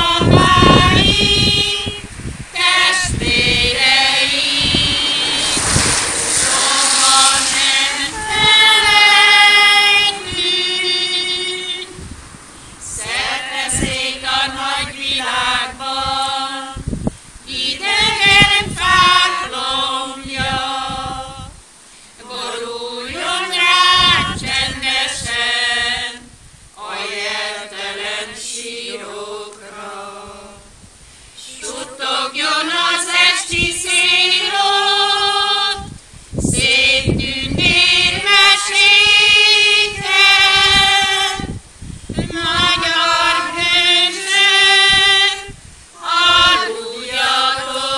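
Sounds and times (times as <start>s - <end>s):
women singing unaccompanied: 0.0s - 12.2s, 12.8s - 47.9s.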